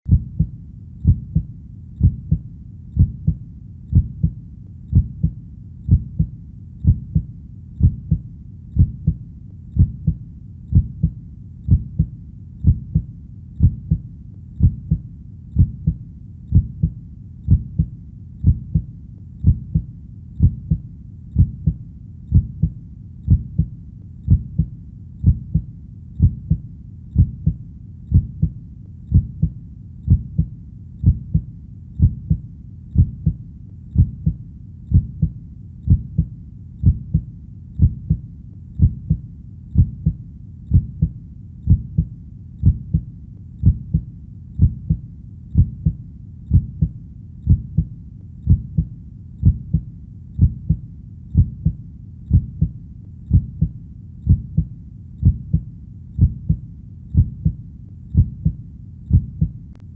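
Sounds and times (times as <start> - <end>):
human heartbeat: 0.1 - 59.8
faint steady background noise: 0.1 - 59.9.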